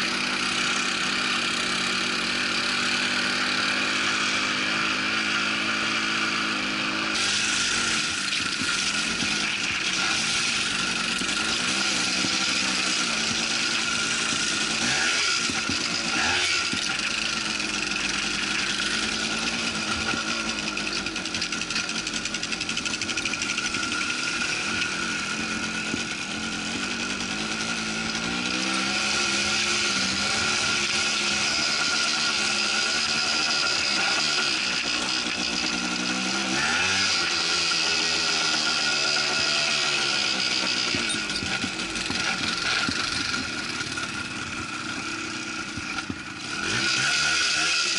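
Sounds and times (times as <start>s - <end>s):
quad bike engine: 0.0s - 47.9s.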